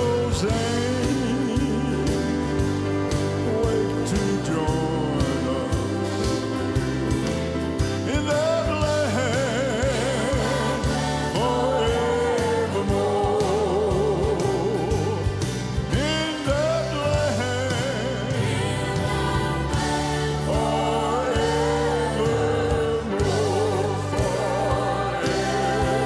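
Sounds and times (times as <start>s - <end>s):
piano and band accompaniment: 0.0s - 26.0s
voices singing gospel: 0.0s - 26.0s.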